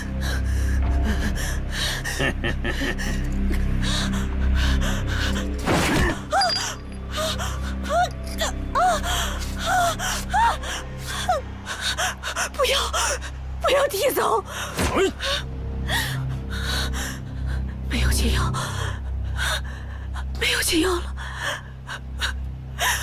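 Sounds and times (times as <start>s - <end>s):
dramatic music: 0.0s - 23.0s.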